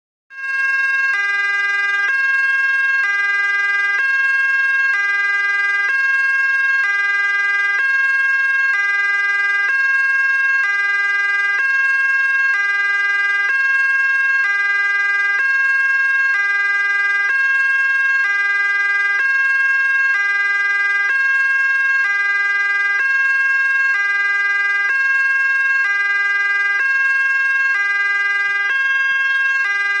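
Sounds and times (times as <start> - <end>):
two-tone ambulance siren: 0.3 - 30.0.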